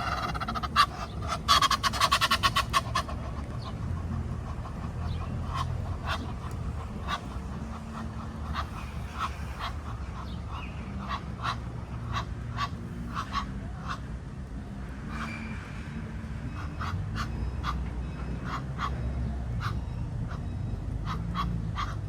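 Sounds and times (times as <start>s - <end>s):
ducks quacking: 0.0s - 14.1s, 14.9s - 22.0s
steady low rumble: 0.0s - 22.0s.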